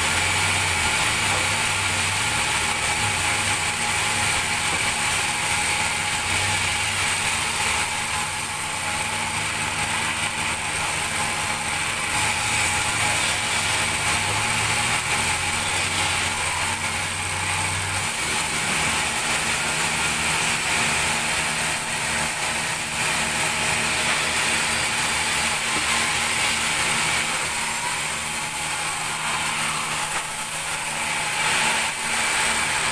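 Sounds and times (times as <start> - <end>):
band saw whirring: 0.0 - 32.9.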